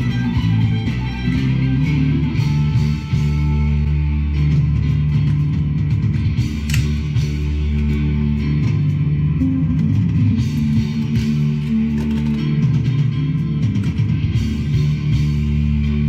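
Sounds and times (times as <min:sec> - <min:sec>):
guitar music with bass: 0:00.0 - 0:16.0.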